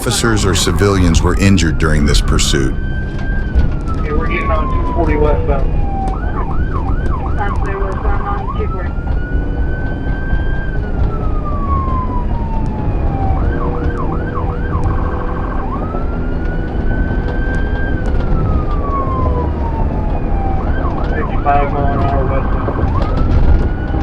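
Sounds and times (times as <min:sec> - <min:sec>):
police siren wailing and yelping: 0:00.0 - 0:24.0.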